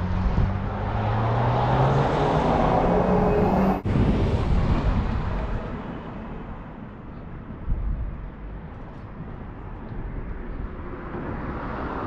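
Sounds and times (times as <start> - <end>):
tyre and wind noise: 0.0 - 12.0.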